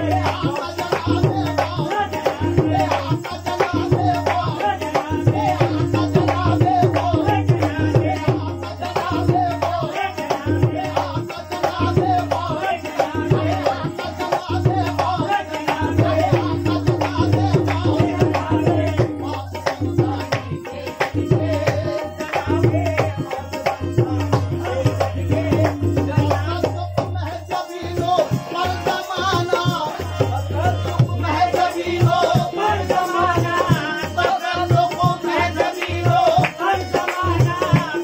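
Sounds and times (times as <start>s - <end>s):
harmonium tones: 0.0s - 38.0s
tabla drumming: 0.0s - 38.0s.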